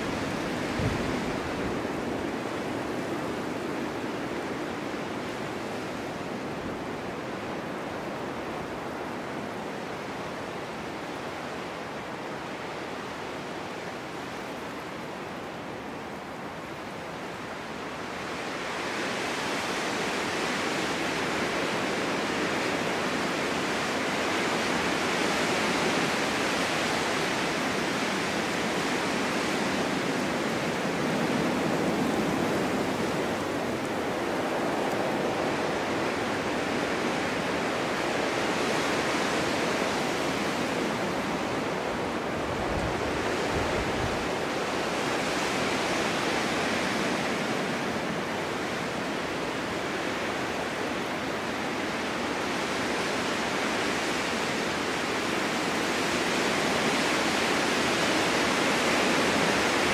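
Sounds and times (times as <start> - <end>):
snowstorm wind blowing: 0.0 - 59.9.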